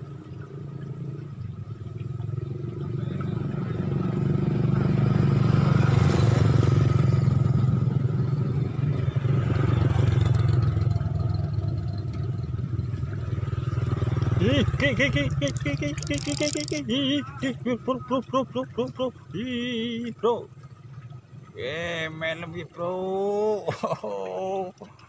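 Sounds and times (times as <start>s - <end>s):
vehicle engine running: 0.0s - 23.3s.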